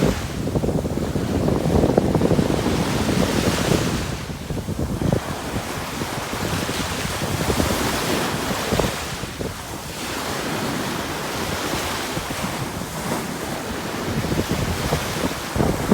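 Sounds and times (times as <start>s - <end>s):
sea waves washing in: 0.0s - 15.9s
wind buffeting microphone: 0.0s - 15.9s.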